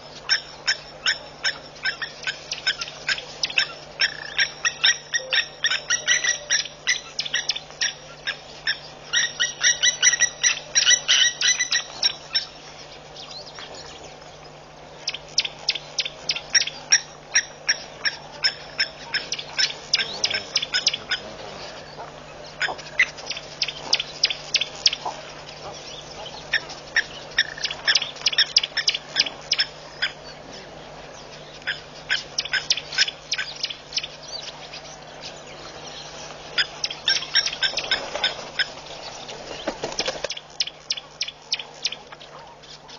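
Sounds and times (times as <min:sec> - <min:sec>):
metallic bird alarm calls: 0:00.0 - 0:42.9.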